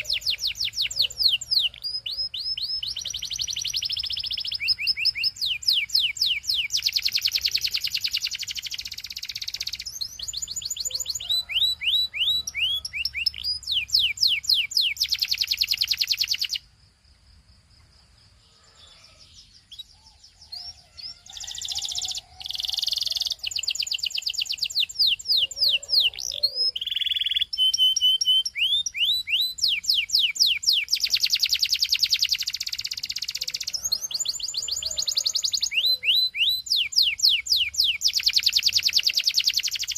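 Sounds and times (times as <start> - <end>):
canary singing trills: 0.0 - 16.7, 18.4 - 39.9.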